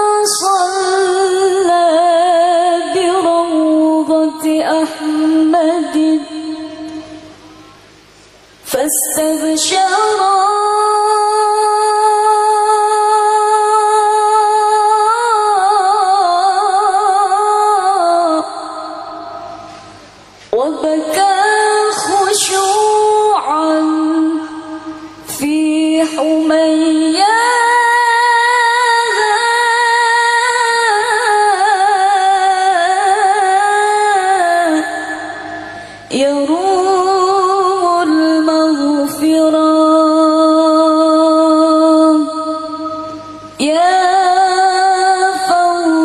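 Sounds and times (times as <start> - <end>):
person singing devotional song: 0.0 - 7.3, 8.6 - 46.0.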